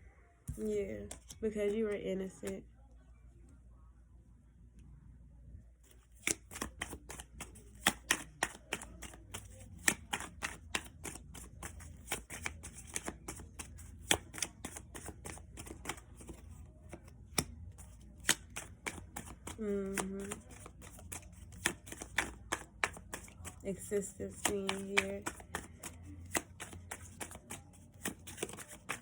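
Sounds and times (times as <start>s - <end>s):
cards being shuffled: 0.5s - 1.8s, 5.8s - 29.0s.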